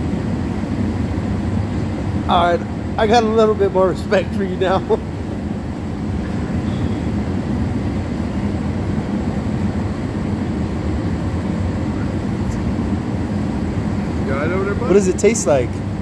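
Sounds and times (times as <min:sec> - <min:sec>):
machinery rumbling: 0:00.0 - 0:16.0.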